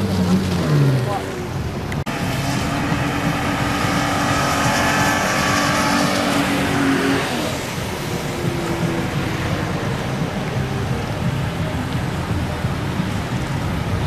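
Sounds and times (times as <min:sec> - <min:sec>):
car engine revving hard: 0:00.0 - 0:14.0
steady rushing noise: 0:00.0 - 0:14.0.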